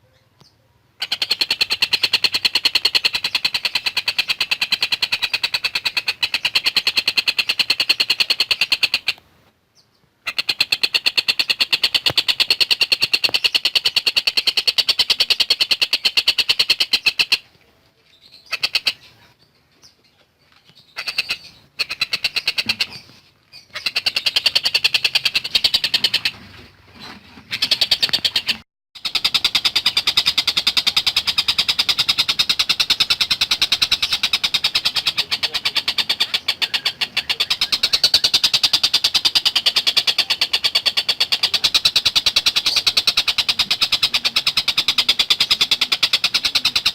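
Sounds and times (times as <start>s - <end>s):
kingfisher chattering calls: 1.0s - 9.2s, 10.3s - 17.4s, 18.5s - 19.1s, 21.0s - 23.1s, 23.7s - 26.4s, 27.5s - 46.9s.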